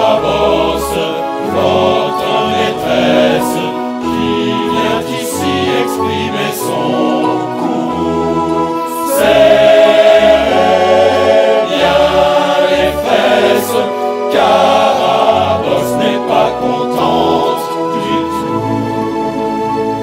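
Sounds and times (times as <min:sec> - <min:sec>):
chorus singing: 0:00.0 - 0:20.0
instrumental accompaniment: 0:00.0 - 0:20.0.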